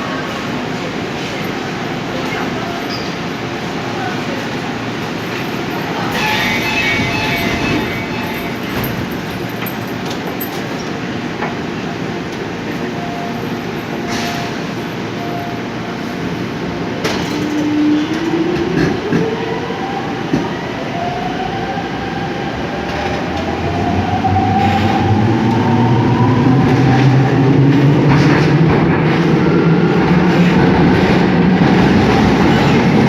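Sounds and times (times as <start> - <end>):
rail running noise: 0.0 - 33.0.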